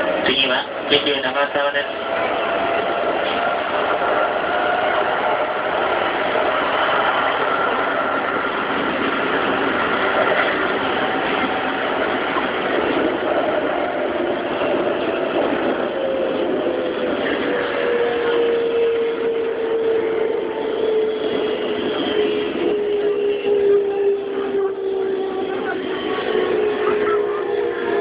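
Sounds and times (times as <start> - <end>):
train wheels rumbling on rail: 0.0 - 28.0
traction motor whine: 1.8 - 28.0.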